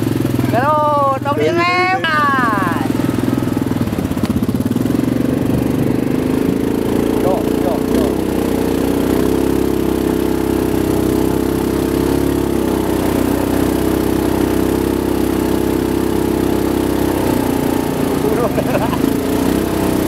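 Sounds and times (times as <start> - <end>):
quad engine running: 0.0 - 20.0.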